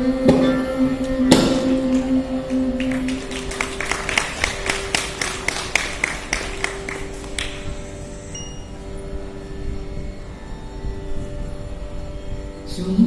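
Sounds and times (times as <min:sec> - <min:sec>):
tanpura drone: 0:00.0 - 0:13.0.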